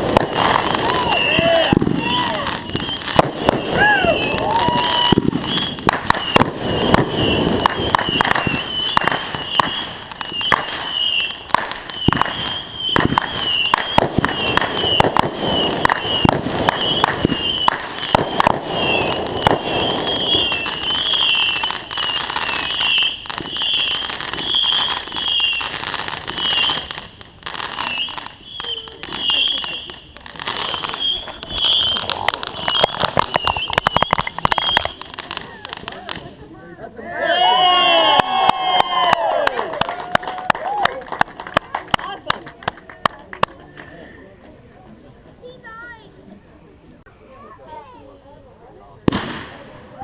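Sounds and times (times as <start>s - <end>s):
fireworks bangs and crackling: 0.0s - 36.8s, 37.6s - 44.5s, 48.6s - 50.0s.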